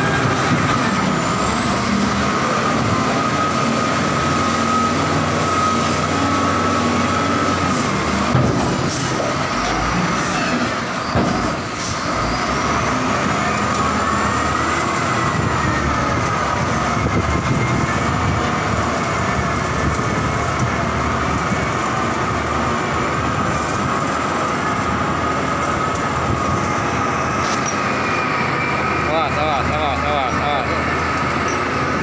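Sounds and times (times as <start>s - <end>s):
heavy construction machinery running: 0.0s - 32.0s.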